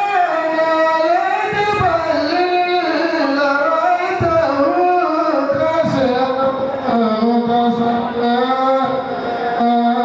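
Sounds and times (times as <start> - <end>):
man singing into microphone: 0.0 - 10.0.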